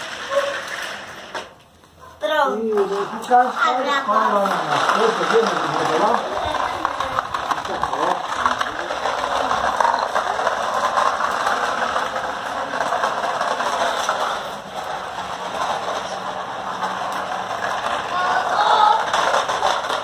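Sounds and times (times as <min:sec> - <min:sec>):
toy truck wheels rattling: 0:00.0 - 0:01.6, 0:02.2 - 0:20.0.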